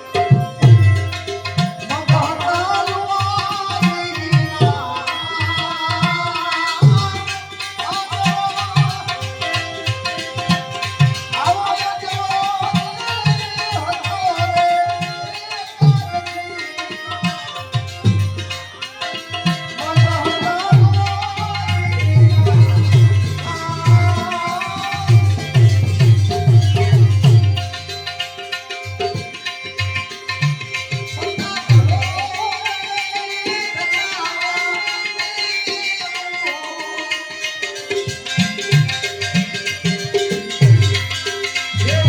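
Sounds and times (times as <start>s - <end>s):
tabla playing a steady beat: 0.0s - 42.0s.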